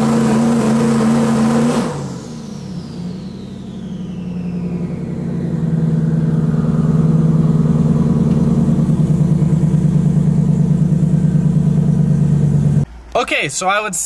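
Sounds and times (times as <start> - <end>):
car engine at raised revs: 0.0 - 13.5.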